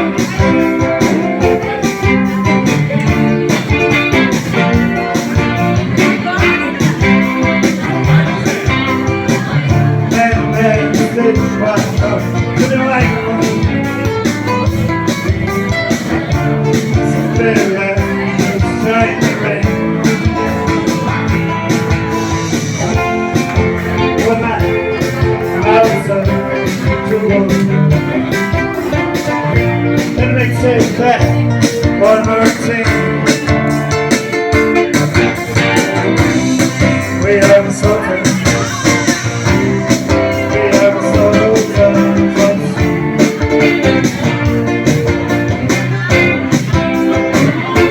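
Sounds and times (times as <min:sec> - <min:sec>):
song with guitar and singing: 0:00.0 - 0:47.9.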